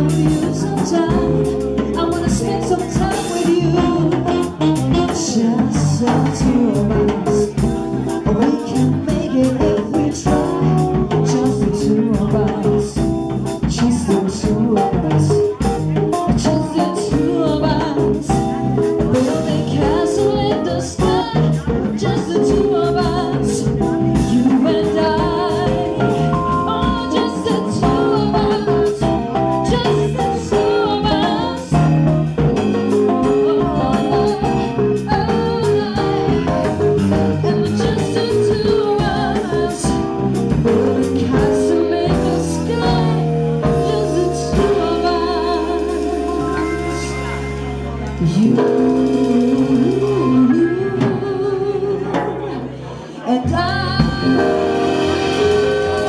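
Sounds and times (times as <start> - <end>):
live salsa band playing: 0.0 - 56.0.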